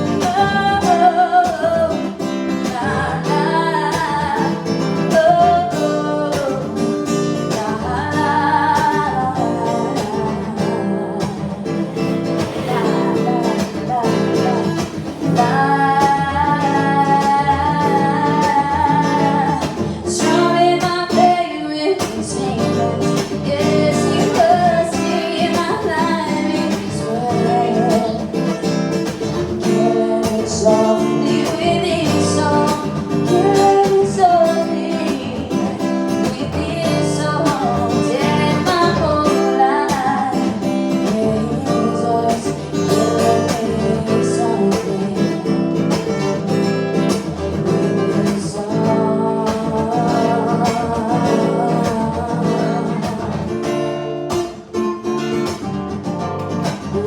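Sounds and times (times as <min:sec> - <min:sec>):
acoustic guitar strummed: 0:00.0 - 0:57.0.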